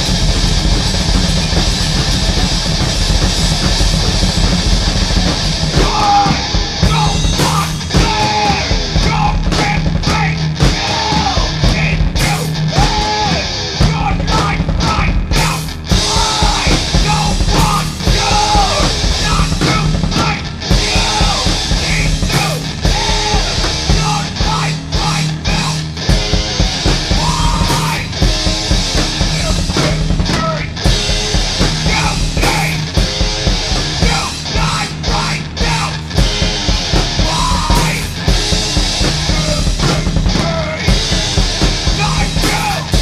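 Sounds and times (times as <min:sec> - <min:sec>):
punk rock music: 0:00.0 - 0:43.0
shouted vocals: 0:05.7 - 0:30.9, 0:31.6 - 0:33.0, 0:33.8 - 0:38.4, 0:39.1 - 0:43.0.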